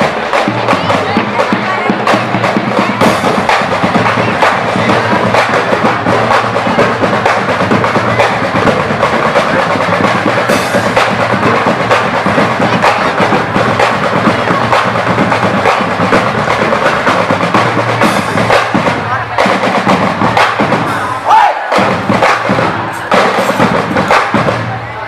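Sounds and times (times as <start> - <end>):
marching band playing: 0.0 - 25.0
snare and bass drums beating: 0.0 - 25.0.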